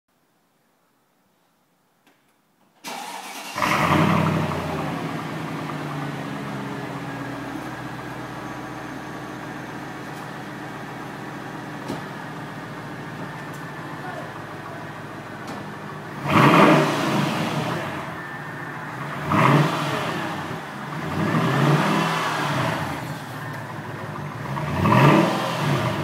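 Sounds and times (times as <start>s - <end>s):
car engine revving and idling: 3.1s - 26.0s.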